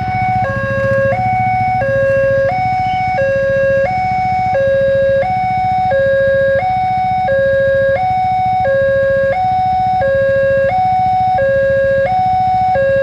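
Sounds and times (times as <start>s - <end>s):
two-tone electronic crossing alarm: 0.0s - 13.0s.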